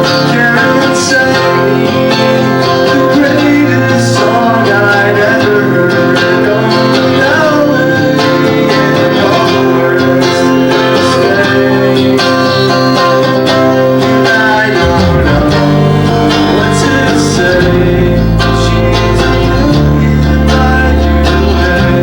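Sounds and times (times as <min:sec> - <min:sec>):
live country band playing: 0:00.0 - 0:22.0
person singing: 0:00.0 - 0:22.0.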